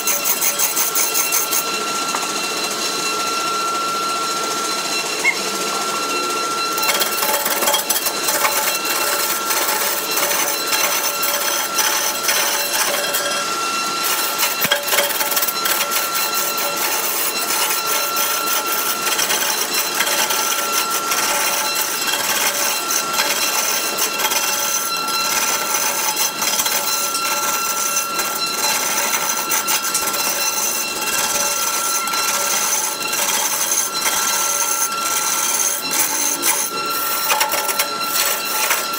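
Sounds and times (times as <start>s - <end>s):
chisel scraping spinning wood: 0.0s - 3.2s, 4.6s - 38.9s
lathe high whine: 0.0s - 38.9s.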